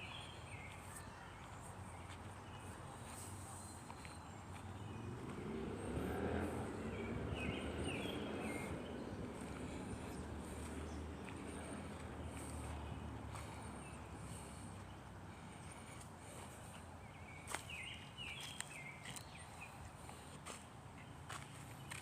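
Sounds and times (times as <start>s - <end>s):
vehicle passing: 2.0s - 22.0s.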